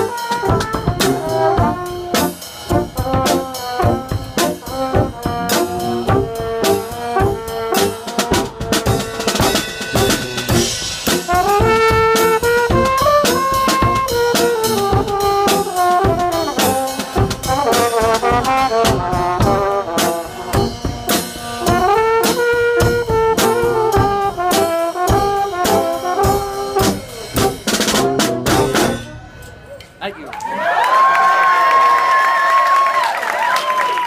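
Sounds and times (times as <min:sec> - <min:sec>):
bass drum beat: 0:00.0 - 0:29.2
brass band playing: 0:00.0 - 0:29.4.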